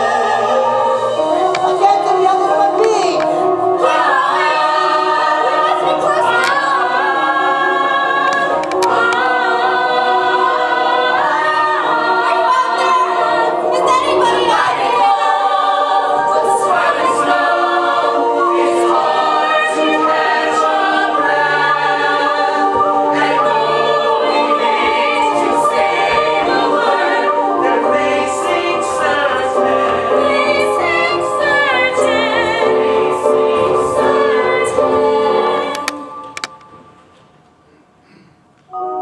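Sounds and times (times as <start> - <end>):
chorus singing in harmony: 0.0 - 37.1.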